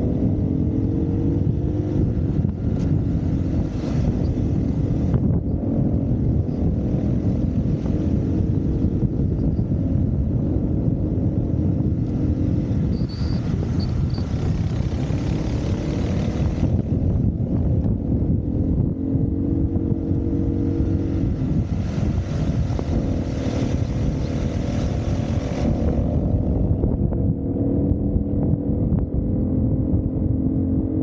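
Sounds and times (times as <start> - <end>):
dirt bike engine running: 0.0 - 30.9.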